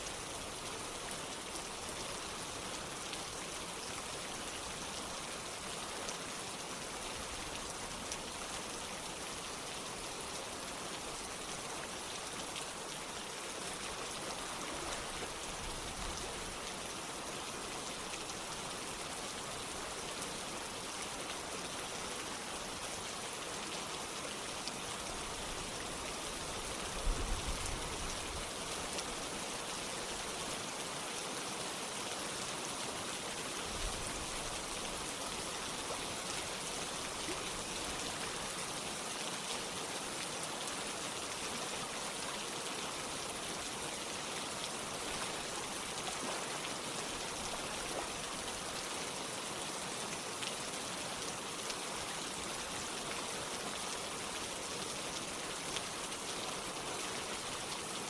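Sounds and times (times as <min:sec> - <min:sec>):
running water: 0:00.0 - 0:58.0
steady rain falling: 0:00.0 - 0:58.0.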